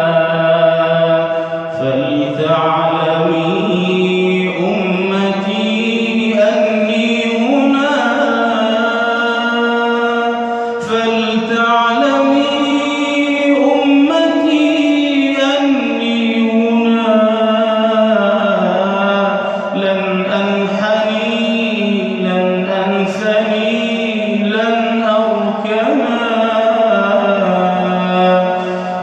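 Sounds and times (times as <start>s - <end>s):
layered voices singing chords: 0.0s - 29.0s.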